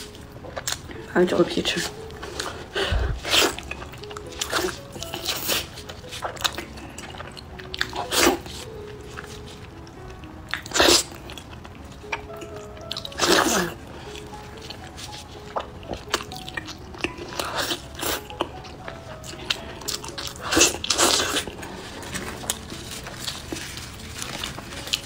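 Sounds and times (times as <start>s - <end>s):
wet chewing and biting: 0.0s - 0.9s, 1.8s - 25.0s
faint background music: 0.0s - 25.0s.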